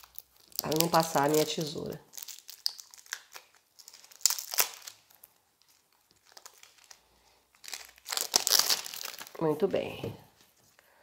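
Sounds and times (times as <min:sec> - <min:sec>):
cellophane crinkling and tearing: 0:00.0 - 0:09.6.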